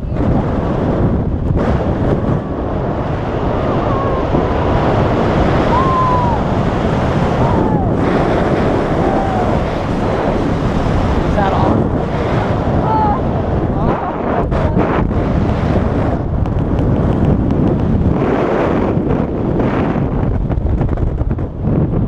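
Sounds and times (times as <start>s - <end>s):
wind roaring over microphone: 0.0s - 22.0s.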